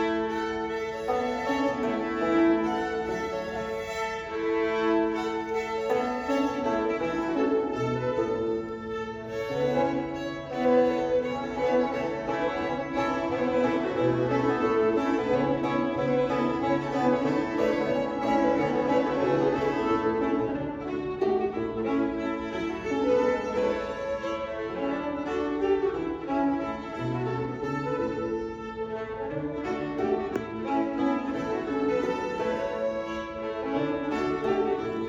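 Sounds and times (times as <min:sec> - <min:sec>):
string band playing fiddle tune: 0:00.0 - 0:35.0.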